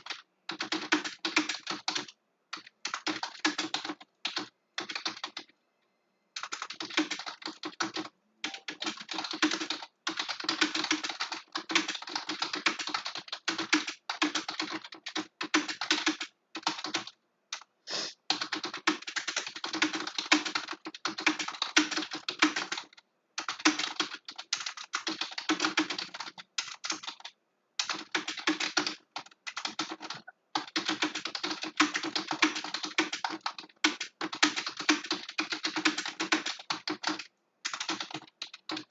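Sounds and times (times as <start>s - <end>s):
fast typing on keyboard: 0.0s - 5.5s, 6.4s - 17.7s, 18.3s - 38.9s.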